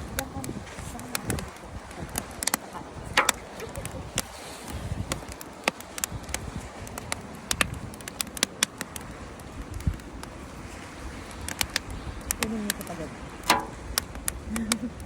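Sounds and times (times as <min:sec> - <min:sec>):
steady rushing noise: 0:00.0 - 0:14.4
campfire crackling and popping: 0:00.0 - 0:15.0.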